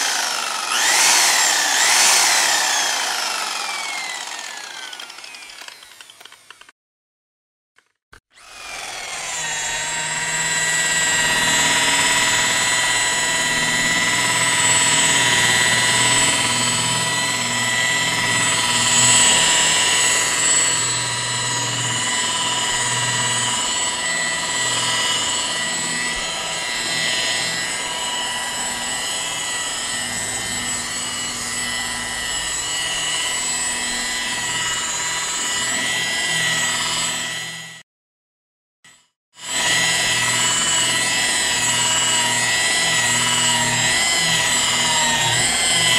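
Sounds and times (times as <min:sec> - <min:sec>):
power tool motor whining: 0:00.0 - 0:06.7, 0:08.2 - 0:37.8, 0:39.4 - 0:45.9.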